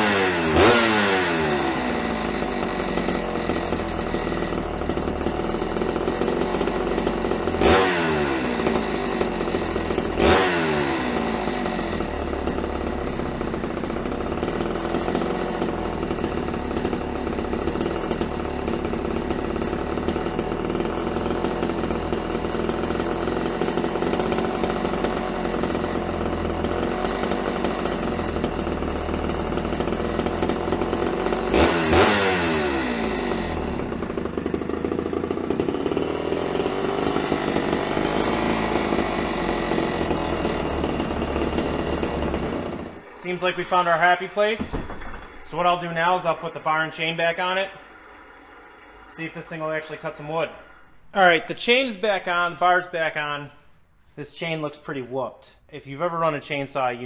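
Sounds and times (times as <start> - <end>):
chainsaw engine idling and revving: 0.0 - 53.3.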